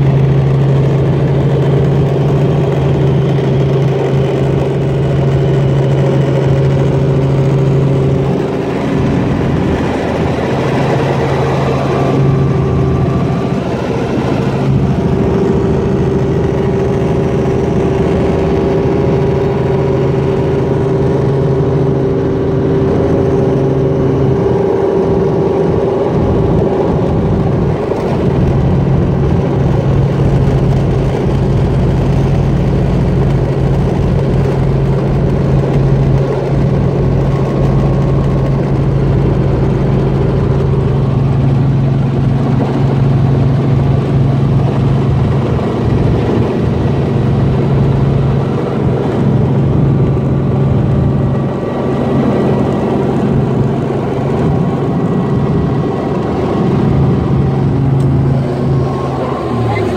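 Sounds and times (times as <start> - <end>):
helicopter engine and rotors drone: 0.0 - 59.9.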